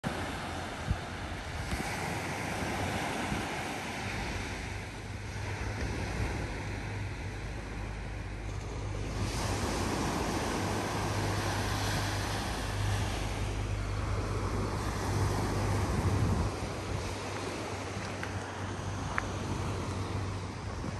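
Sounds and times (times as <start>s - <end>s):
surf washing on shore: 0.0s - 20.9s
wind rumbling on microphone: 0.0s - 20.9s.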